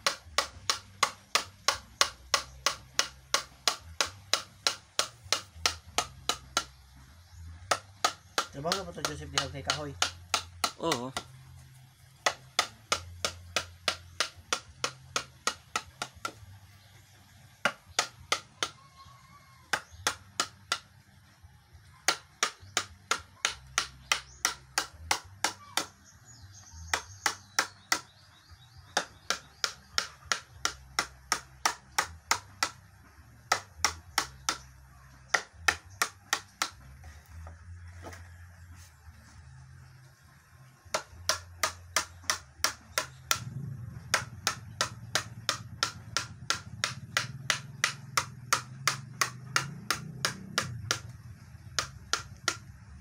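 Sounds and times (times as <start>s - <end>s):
hammer tapping carving gouge into wood: 0.0s - 11.6s, 12.2s - 16.6s, 17.6s - 18.8s, 19.7s - 21.0s, 22.1s - 38.2s, 40.9s - 52.8s.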